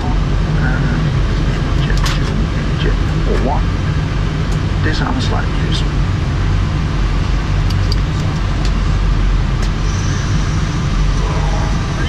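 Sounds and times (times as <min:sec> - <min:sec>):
air conditioning rushing air: 0:00.0 - 0:12.0
low hum: 0:00.0 - 0:12.0.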